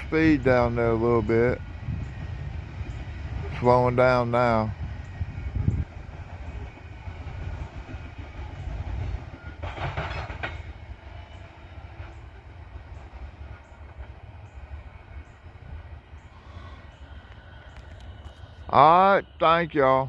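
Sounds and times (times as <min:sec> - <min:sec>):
rail clicks: 0:00.0 - 0:20.0
train wheels rumbling: 0:00.0 - 0:20.0.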